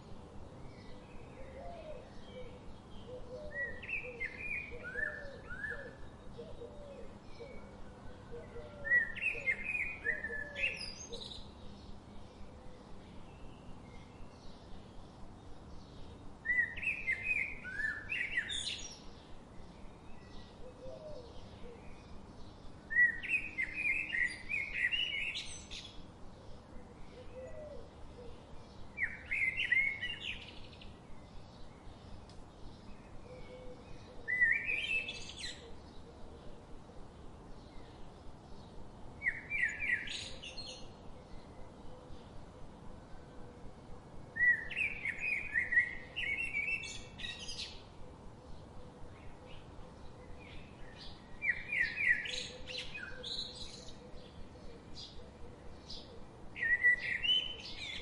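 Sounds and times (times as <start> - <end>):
faint steady hiss: 0.0 - 58.0
songbirds chirping: 0.0 - 58.0.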